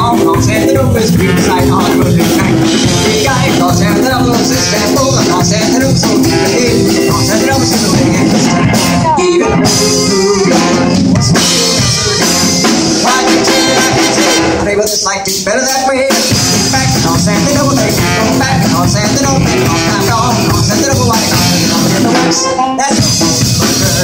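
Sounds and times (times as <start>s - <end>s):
saxophones: 0.0s - 14.9s, 15.8s - 24.0s
drum beat: 0.0s - 24.0s
trumpet: 1.0s - 15.2s, 16.0s - 24.0s.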